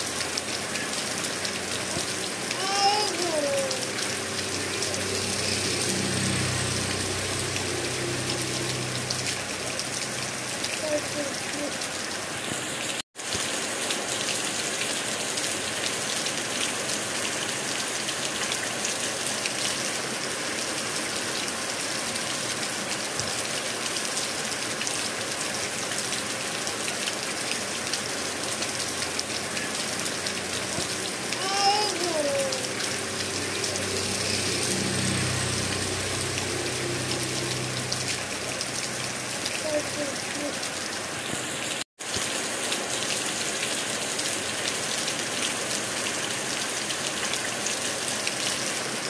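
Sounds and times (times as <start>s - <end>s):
rain pattering: 0.0s - 49.0s.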